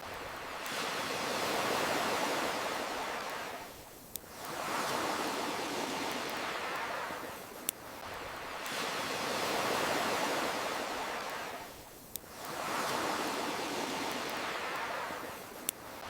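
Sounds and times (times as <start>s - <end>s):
ocean waves washing in: 0.0s - 16.0s.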